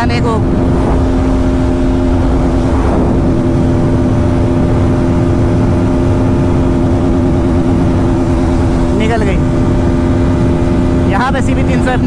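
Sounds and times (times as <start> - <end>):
motorcycle engine at high revs: 0.0 - 12.0
wind rush on microphone: 0.0 - 12.0.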